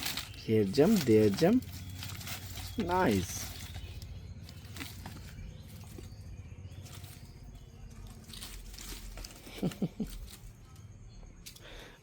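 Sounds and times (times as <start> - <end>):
kittens tapping and rustling: 0.0 - 11.7
low background hum: 0.0 - 12.0.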